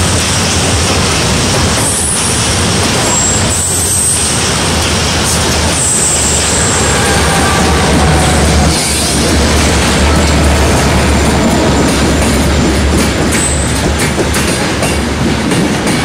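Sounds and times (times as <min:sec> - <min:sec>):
diesel locomotive engine drone: 0:00.0 - 0:16.0
train rumble: 0:00.0 - 0:16.0.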